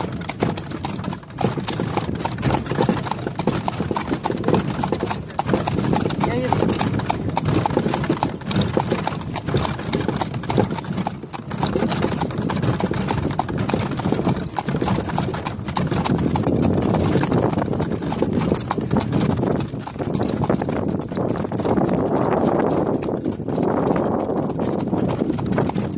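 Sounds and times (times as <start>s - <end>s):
continuous rumble: 0.0s - 22.6s
hooves clip-clopping on pavement: 0.0s - 25.9s.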